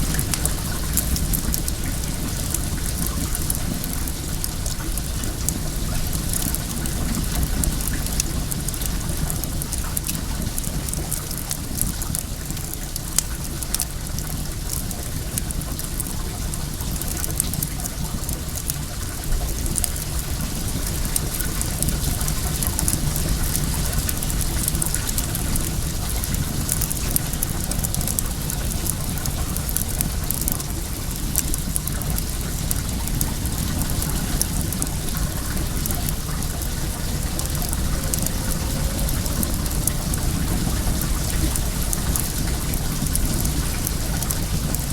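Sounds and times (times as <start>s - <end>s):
flowing water rushing: 0.0s - 44.9s
wood fire crackling and popping: 0.0s - 44.9s.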